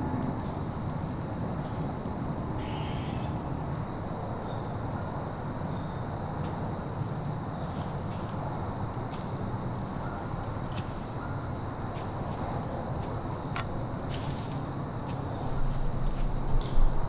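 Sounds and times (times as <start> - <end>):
low woodland rumble: 0.0 - 17.0.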